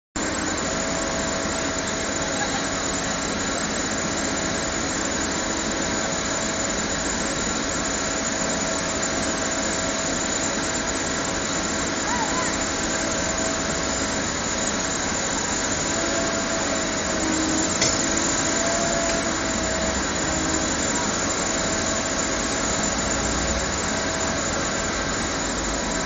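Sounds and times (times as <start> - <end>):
excavator engine and hydraulics: 0.2 - 26.0
steady whine: 0.2 - 26.0.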